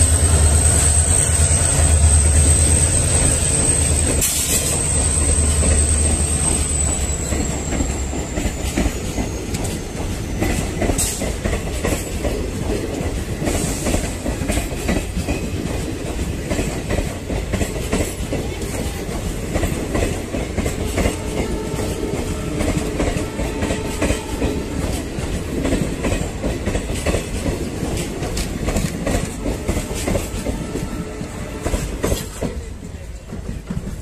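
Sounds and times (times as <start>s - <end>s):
train coaches rumbling past: 0.0s - 34.0s.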